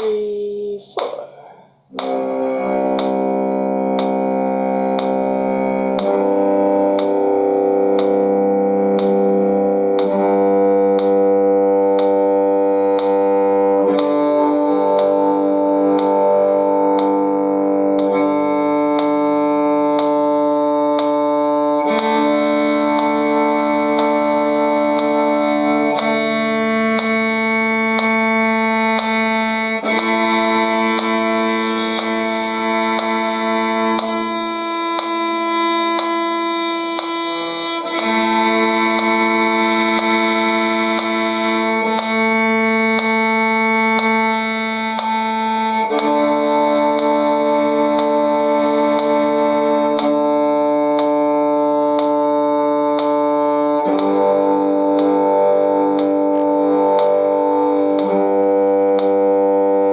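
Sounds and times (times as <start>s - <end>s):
bowed string long notes: 0.0s - 59.9s
sharp metronome click: 1.9s - 59.9s.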